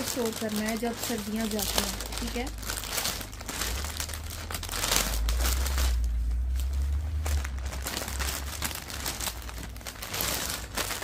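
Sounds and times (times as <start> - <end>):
plastic bag crinkling and rustling: 0.0 - 11.0
low rumble: 1.0 - 11.0.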